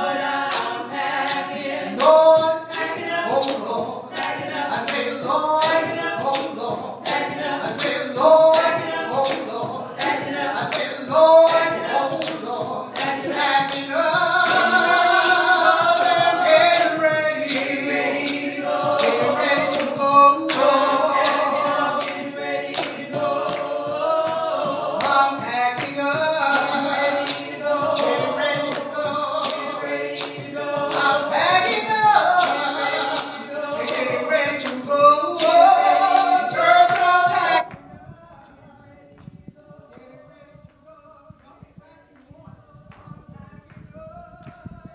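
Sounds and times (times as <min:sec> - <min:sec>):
sharp regular beat: 0:00.0 - 0:44.9
vocal group singing gospel: 0:00.0 - 0:44.9.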